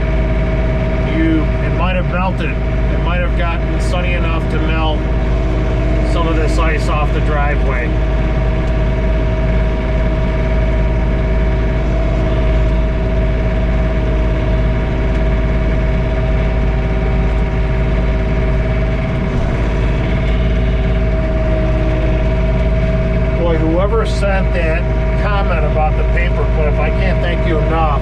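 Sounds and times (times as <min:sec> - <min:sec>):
steady whine: 0:00.0 - 0:28.0
tractor diesel engine running: 0:00.0 - 0:28.0.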